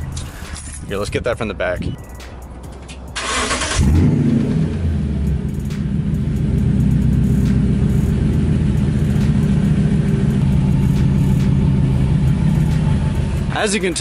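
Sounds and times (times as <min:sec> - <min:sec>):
pickup engine idling: 0:02.0 - 0:14.0.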